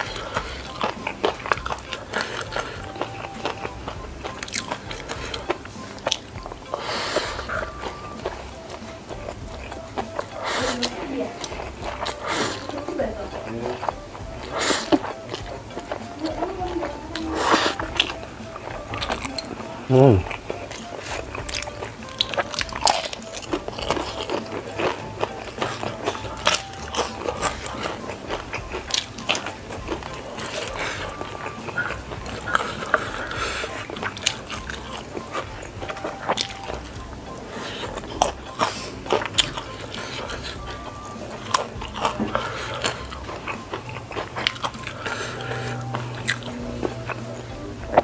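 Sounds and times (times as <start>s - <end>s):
crunchy food chewing: 0.0s - 48.0s.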